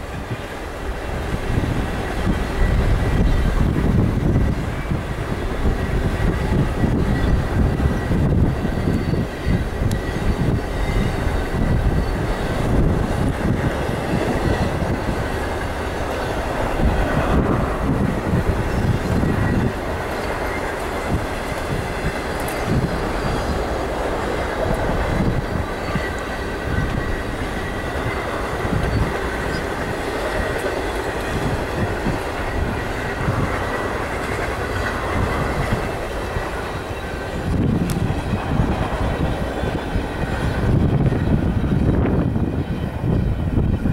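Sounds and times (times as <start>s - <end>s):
train wheels rolling on rails: 0.0s - 43.9s.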